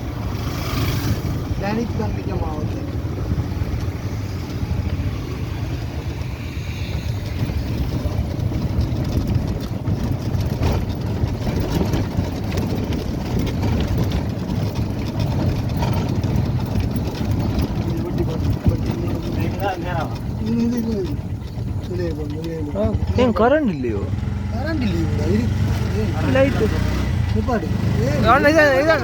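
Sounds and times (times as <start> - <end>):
vehicle rumble from inside: 0.0 - 29.0.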